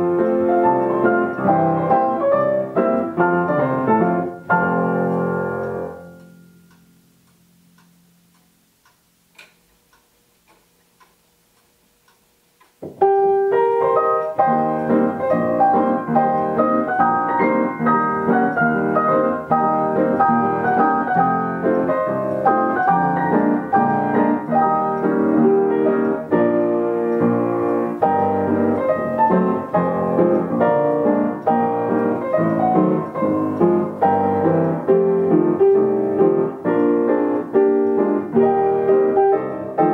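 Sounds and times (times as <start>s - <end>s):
upright piano playing chords: 0.0s - 8.8s, 12.8s - 39.9s
faint clicks: 0.0s - 39.9s.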